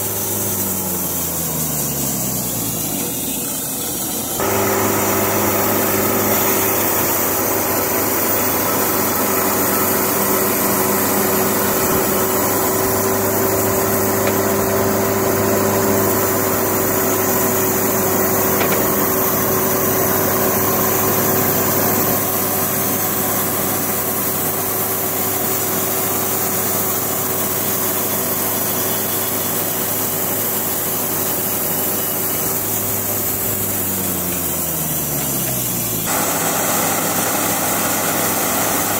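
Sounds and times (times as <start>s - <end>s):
band sawmill sawing a log: 0.0s - 38.9s
sawdust blowing out: 0.0s - 38.9s.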